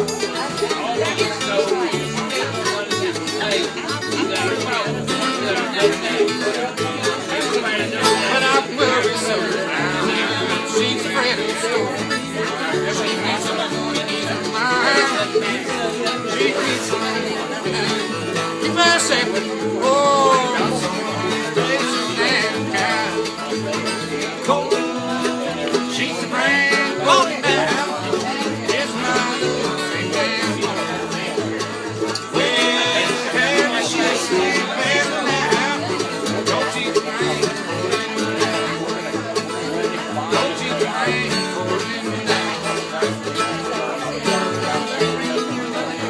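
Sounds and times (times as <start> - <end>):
rhythmic bass line: 0.0 - 45.3
plucked strings: 0.0 - 46.0.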